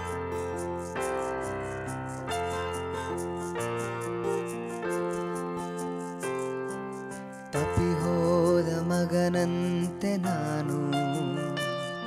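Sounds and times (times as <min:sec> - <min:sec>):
piano-like keyboard chords: 0:00.0 - 0:12.0.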